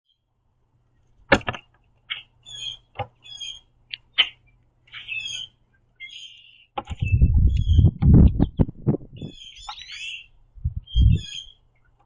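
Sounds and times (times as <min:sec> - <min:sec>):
birds squeaky high calls: 0:02.1 - 0:12.0.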